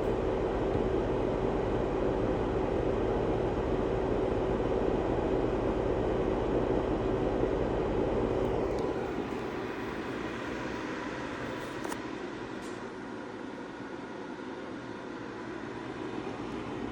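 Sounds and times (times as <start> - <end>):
steady mechanical hum: 0.0 - 16.9.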